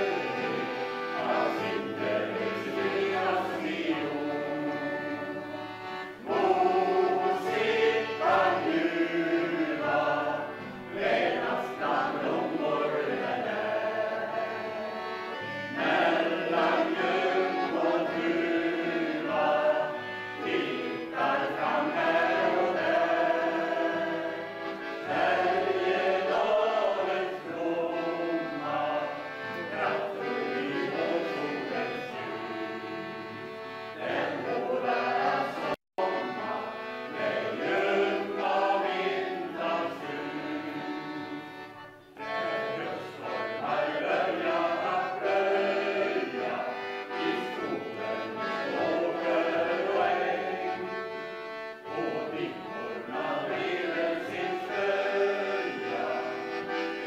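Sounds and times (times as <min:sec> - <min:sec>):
accordion: 0:00.0 - 0:57.0
mixed choir singing: 0:00.0 - 0:57.0.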